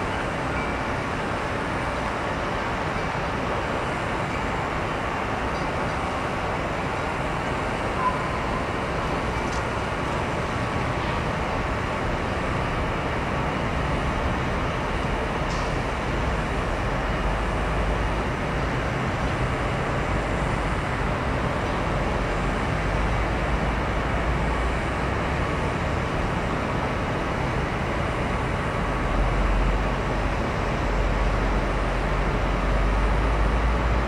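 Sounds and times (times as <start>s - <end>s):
traffic and engines rumbling: 0.0s - 34.0s.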